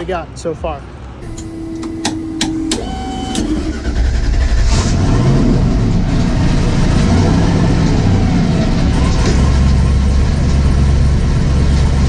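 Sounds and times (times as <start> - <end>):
engine loud low rumble: 0.0 - 12.0
short starter whine: 1.2 - 12.0.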